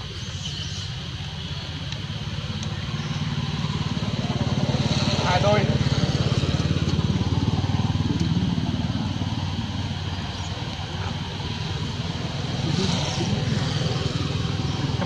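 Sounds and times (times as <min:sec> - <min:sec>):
small engine running: 0:00.2 - 0:15.0.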